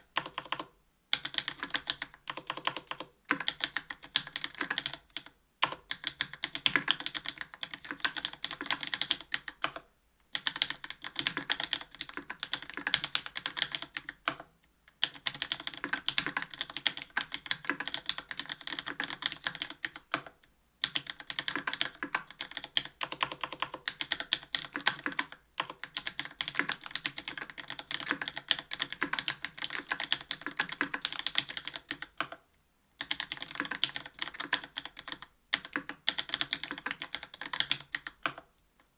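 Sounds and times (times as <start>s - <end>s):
fast mechanical keyboard typing: 0.2s - 32.4s, 33.0s - 38.5s.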